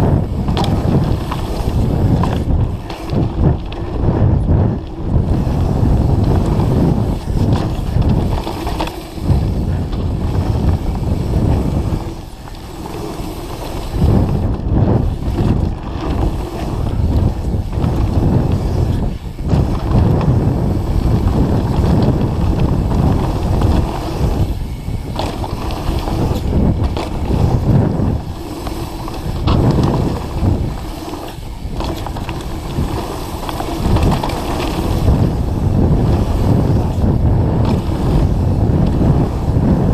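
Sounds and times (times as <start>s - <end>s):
bike tyres rumbling on dirt: 0.0s - 39.9s
wind buffeting microphone: 0.0s - 39.9s.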